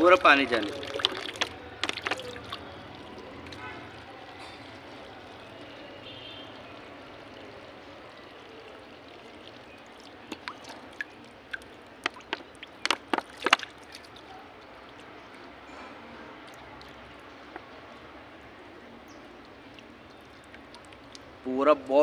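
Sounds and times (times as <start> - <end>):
water trickling from a bottle: 0.0 - 21.9.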